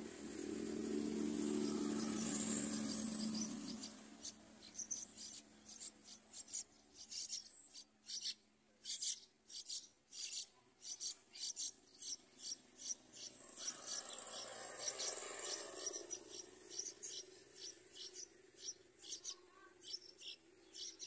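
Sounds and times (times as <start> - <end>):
nestlings begging calls: 0.3 - 21.0.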